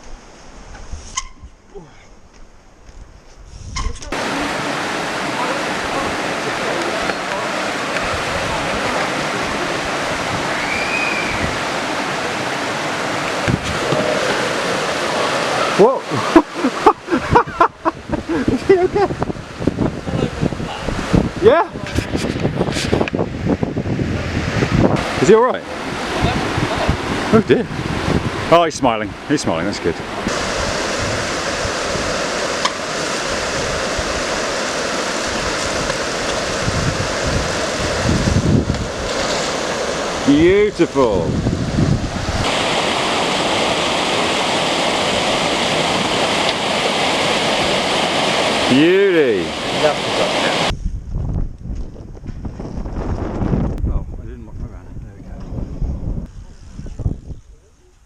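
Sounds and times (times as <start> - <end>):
steady rushing noise: 4.0 - 56.6
wind buffeting microphone: 7.7 - 12.3, 13.0 - 57.9.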